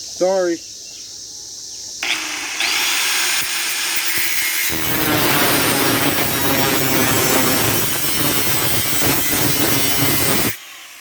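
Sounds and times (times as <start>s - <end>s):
angle grinder cutting steel: 2.0s - 11.0s.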